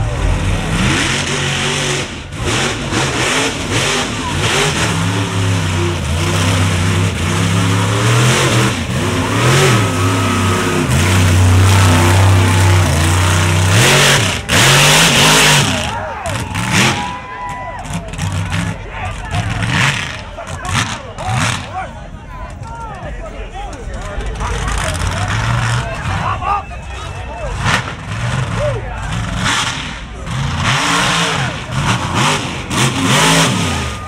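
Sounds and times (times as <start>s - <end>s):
truck engine revving: 0.0s - 22.6s, 23.8s - 34.0s
tires churning and spraying mud: 0.0s - 34.0s.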